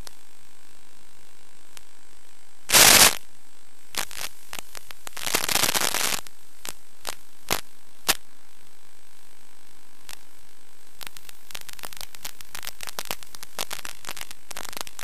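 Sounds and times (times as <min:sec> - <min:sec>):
crackling interference: 0:00.0 - 0:15.0
static hiss: 0:00.0 - 0:15.0.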